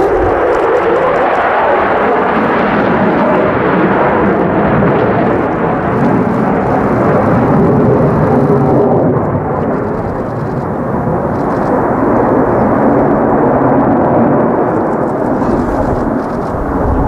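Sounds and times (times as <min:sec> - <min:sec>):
fighter jet engine rumble: 0:00.0 - 0:17.0.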